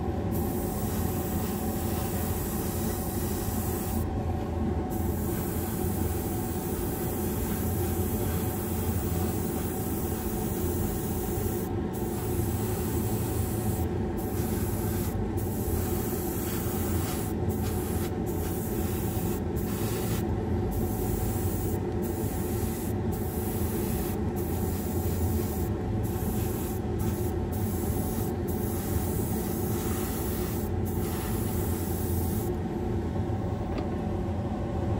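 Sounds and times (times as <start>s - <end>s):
extraction fan hum: 0.0s - 34.9s
airbrush hissing: 0.3s - 4.0s, 4.9s - 20.2s, 20.8s - 32.5s.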